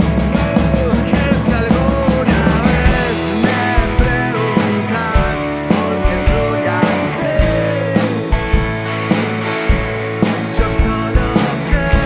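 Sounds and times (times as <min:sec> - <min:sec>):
bending lead guitar line: 0:00.0 - 0:12.0
rock band playing: 0:00.0 - 0:12.0.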